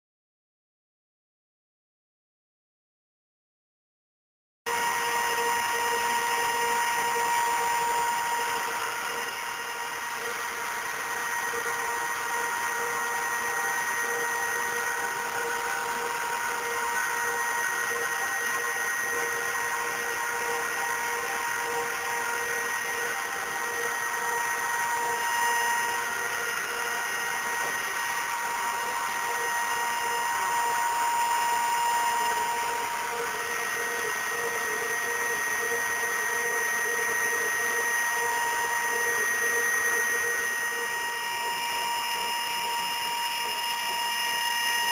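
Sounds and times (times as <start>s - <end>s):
router machine whine: 4.7s - 44.9s.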